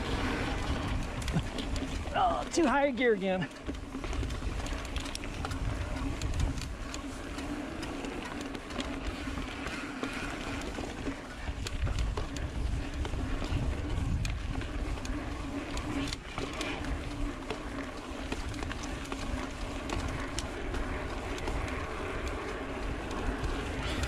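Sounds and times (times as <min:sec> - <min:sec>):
bike ticks and rattles: 0:00.0 - 0:24.0
bike tyres rolling on dirt: 0:00.0 - 0:24.0.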